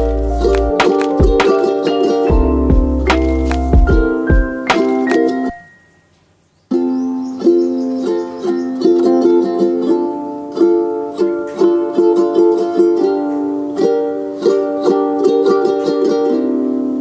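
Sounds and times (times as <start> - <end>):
plucked string tune: 0.0 - 6.0, 6.7 - 17.0.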